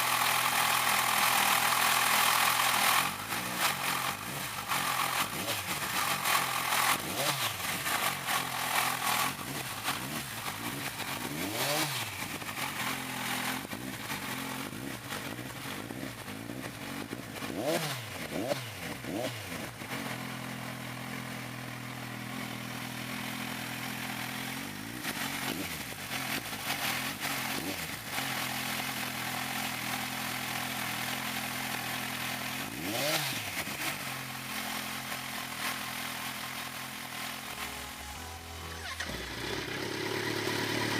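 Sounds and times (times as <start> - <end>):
motorcycle idling: 0.0 - 40.9.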